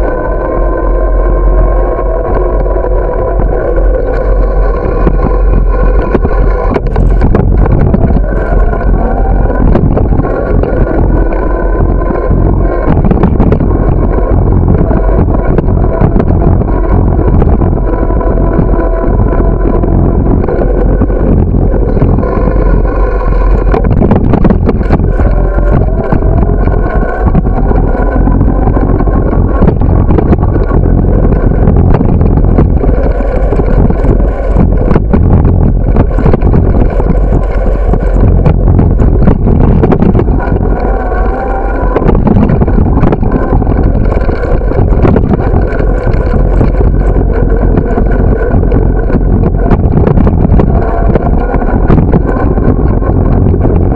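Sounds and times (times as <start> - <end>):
bicycle rattling over bumps: 0.0 - 53.9
bicycle tyre road noise: 0.0 - 53.9
low hum: 0.0 - 53.9
wind on microphone: 0.0 - 53.9.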